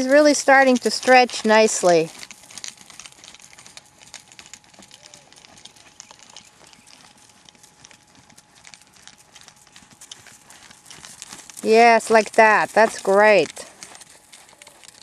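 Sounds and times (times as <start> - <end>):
horse hoofbeats on sand: 0.0 - 15.0.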